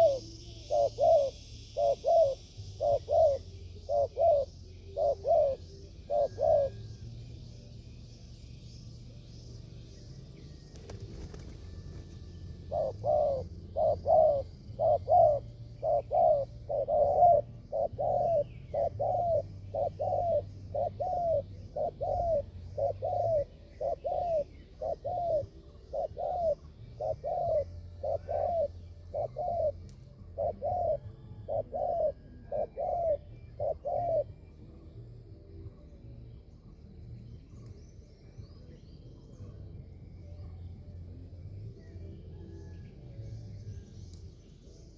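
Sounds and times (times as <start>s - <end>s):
dove cooing: 0.0s - 7.0s, 10.8s - 35.9s, 39.3s - 43.5s.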